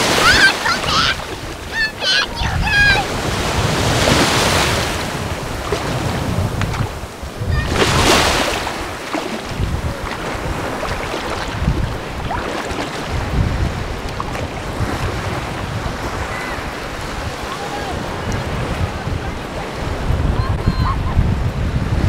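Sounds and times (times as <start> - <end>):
small waves breaking on beach: 0.0 - 22.0
wind buffeting microphone: 0.0 - 22.0.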